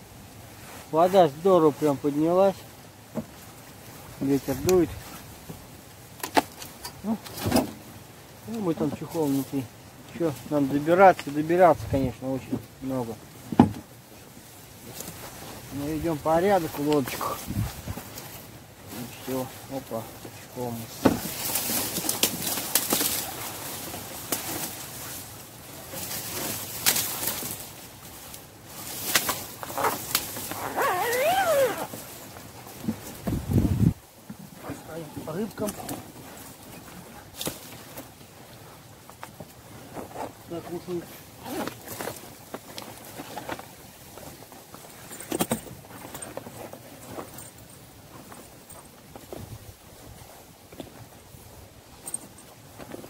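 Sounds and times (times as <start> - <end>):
rustling and handling noise: 0.0 - 53.0.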